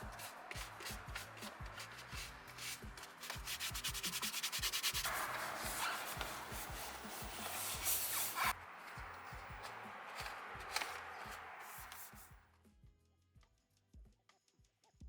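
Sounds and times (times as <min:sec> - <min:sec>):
brush scrubbing upholstery: 0:00.0 - 0:12.3
steady hiss: 0:00.0 - 0:12.3.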